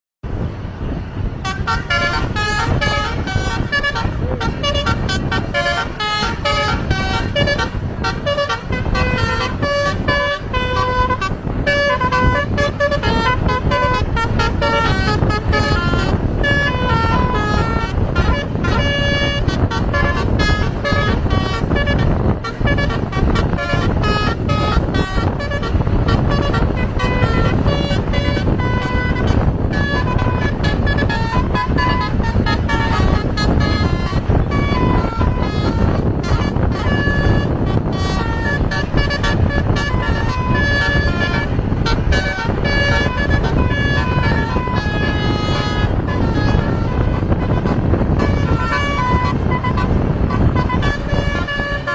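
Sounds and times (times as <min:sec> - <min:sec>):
steady low rumble: 0:00.2 - 0:51.9
multi-tone horn melody: 0:00.4 - 0:51.9.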